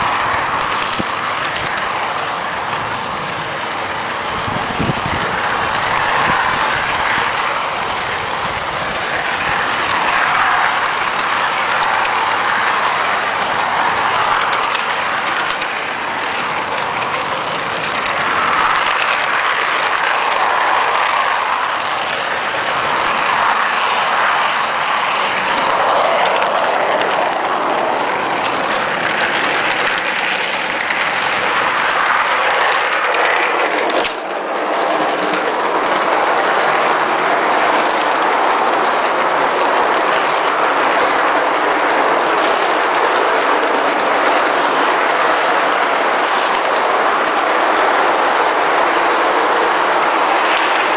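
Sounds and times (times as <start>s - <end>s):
model train wheels on rails: 0.0s - 50.9s.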